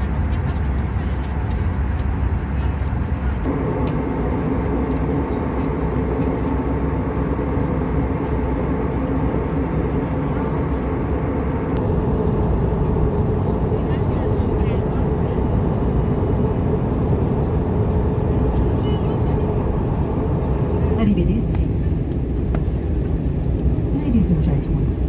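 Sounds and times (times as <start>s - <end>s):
airplane cabin roar: 0.0s - 25.0s
steady hum: 0.0s - 25.0s.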